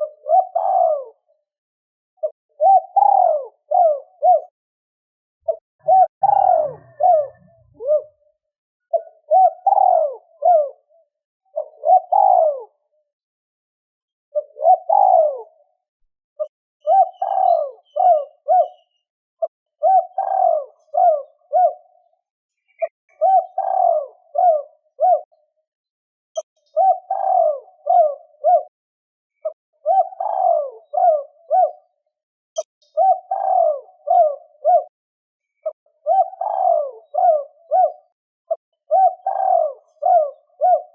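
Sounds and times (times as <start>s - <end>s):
dove cooing: 0.0s - 1.4s, 2.2s - 4.6s, 5.4s - 12.9s, 14.3s - 15.8s, 16.4s - 22.1s, 22.7s - 25.5s, 26.4s - 28.8s, 29.4s - 32.0s, 32.6s - 35.0s, 35.6s - 40.9s.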